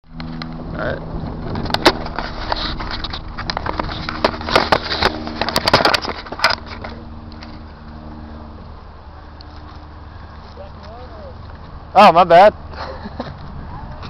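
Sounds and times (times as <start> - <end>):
car engine running: 0.1 - 12.0
dry crunching and crackling: 0.2 - 11.8.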